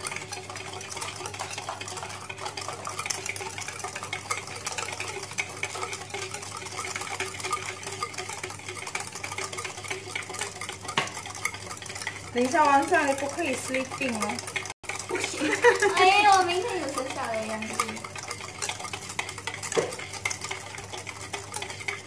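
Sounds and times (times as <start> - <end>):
whisk clicking against plastic bowl: 0.0 - 22.0.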